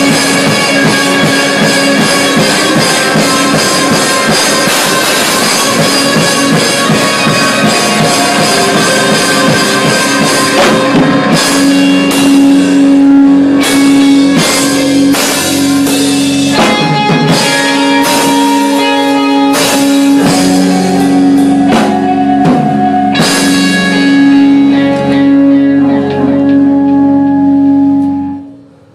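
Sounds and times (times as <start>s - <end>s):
cymbals crashing: 0.0s - 28.9s
low guitar note ringing: 0.0s - 28.9s
rock band playing: 0.0s - 28.9s.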